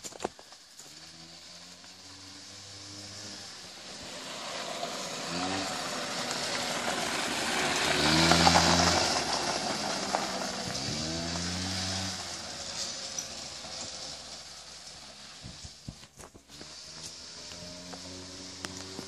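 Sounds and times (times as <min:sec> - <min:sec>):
quad bike engine revving: 0:00.8 - 0:14.3, 0:15.1 - 0:19.0.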